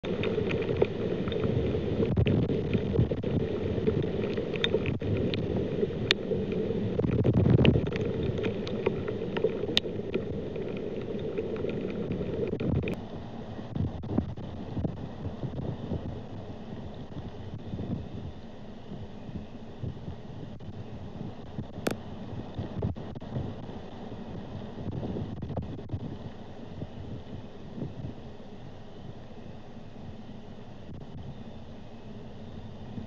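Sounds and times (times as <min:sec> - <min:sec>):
steady rain: 0:00.0 - 0:32.3.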